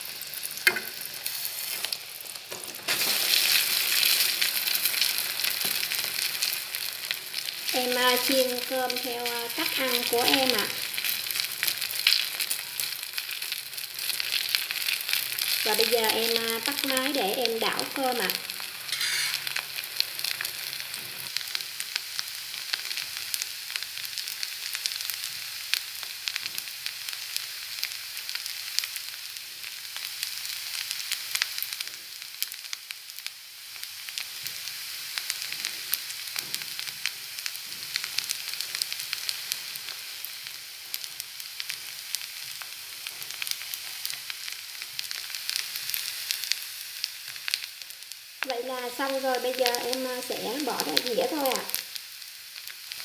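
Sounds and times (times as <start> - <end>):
rice sizzling in hot fat: 0.0 - 53.0.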